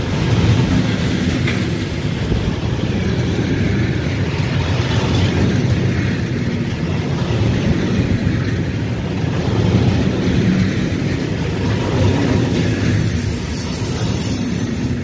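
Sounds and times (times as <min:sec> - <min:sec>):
freight train rolling by: 0:00.0 - 0:15.0.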